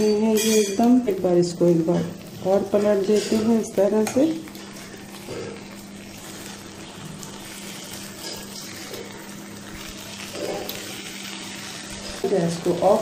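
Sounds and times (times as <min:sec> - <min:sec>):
food sizzling in oil: 0:00.0 - 0:13.0
tongs turning food in pan: 0:00.0 - 0:13.0.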